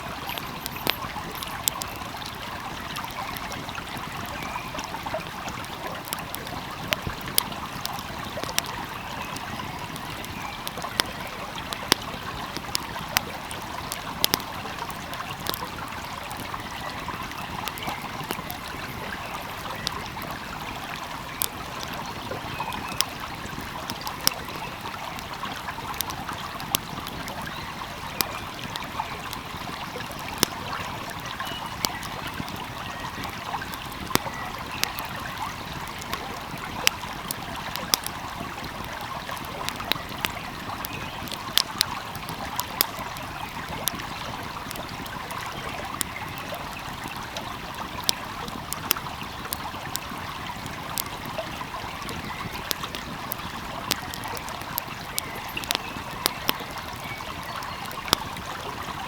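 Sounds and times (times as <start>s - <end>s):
flowing stream: 0.0s - 59.0s
wood fire crackling and popping: 0.0s - 59.0s.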